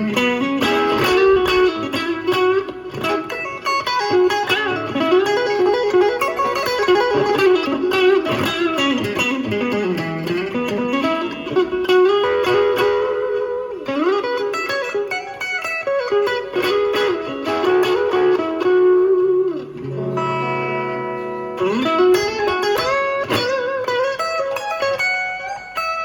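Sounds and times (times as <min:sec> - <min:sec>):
electric guitar chord ringing: 0:00.0 - 0:26.0
electric guitar lead phrases: 0:00.0 - 0:26.0.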